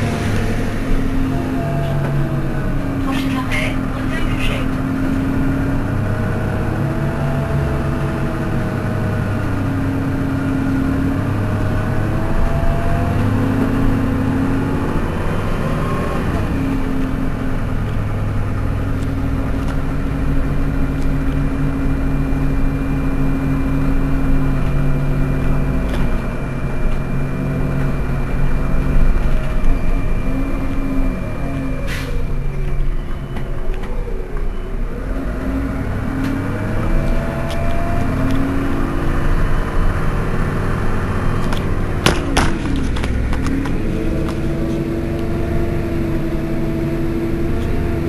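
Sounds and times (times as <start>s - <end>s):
bus engine idling: 0.0s - 48.0s.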